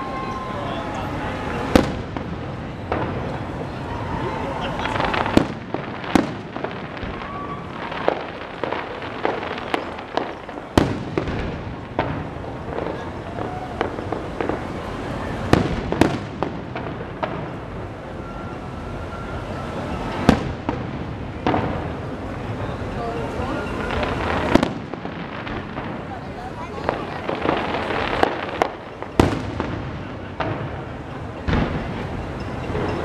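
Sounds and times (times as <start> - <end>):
fireworks bursting with booms: 1.2 - 33.0.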